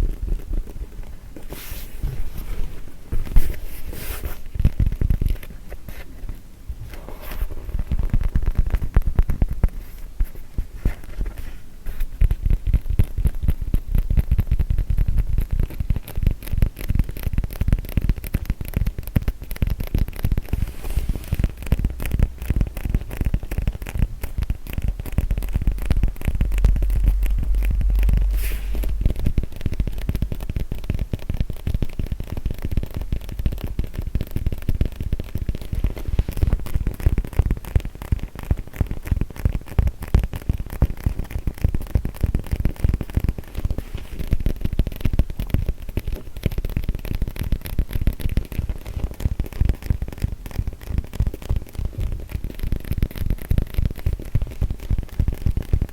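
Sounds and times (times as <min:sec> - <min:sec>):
tapping and scratching on foam mat: 0:00.0 - 0:55.9.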